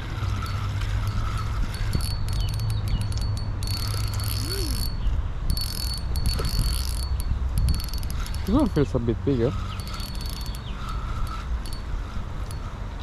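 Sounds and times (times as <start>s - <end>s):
insects chirring: 0.0s - 13.0s
steady low rumble: 0.0s - 13.0s.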